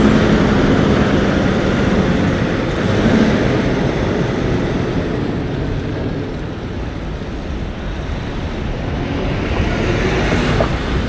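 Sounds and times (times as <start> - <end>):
truck road and engine noise: 0.0 - 11.0.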